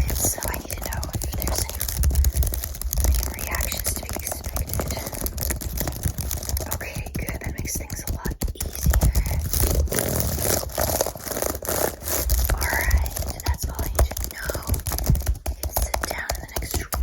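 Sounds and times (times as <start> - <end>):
fast scratching and clicking: 0.0 - 17.0.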